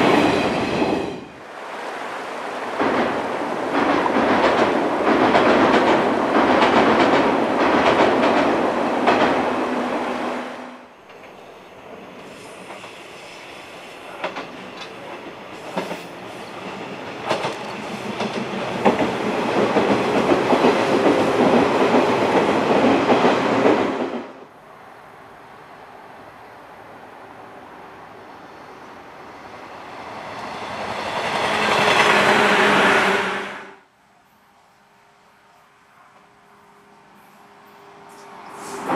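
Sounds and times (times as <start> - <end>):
train rumbling across steel bridge: 0.0 - 33.8
electric train passing rumble: 0.0 - 38.9.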